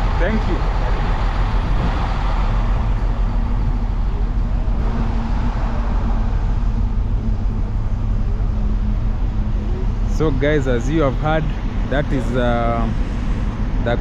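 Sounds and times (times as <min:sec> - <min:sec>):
construction machinery engines: 0:00.0 - 0:14.0
road traffic: 0:00.0 - 0:14.0.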